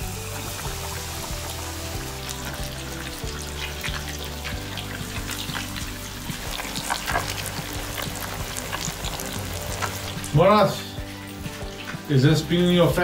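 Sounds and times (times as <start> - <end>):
background music: 0.0 - 13.0
fish frying in crackling oil: 0.0 - 13.0.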